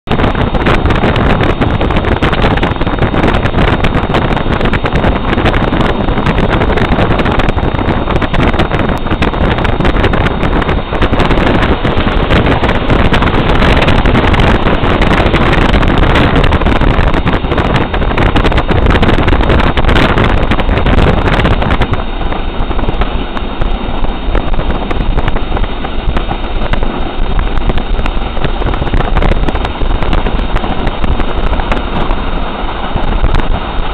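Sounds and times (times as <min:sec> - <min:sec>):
vehicle rushing and rumbling: 0:00.0 - 0:33.9
wind buffeting microphone: 0:00.0 - 0:33.9.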